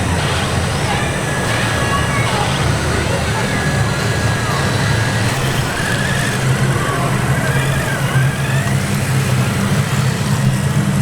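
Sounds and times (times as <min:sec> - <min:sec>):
model engine idling rumble: 0:00.0 - 0:11.0.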